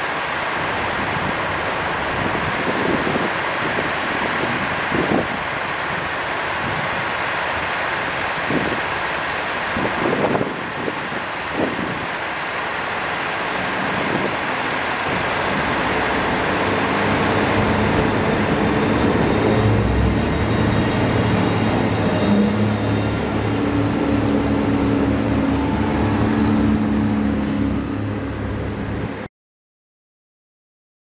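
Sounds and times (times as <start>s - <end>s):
diesel railcar passing: 0.0s - 29.3s.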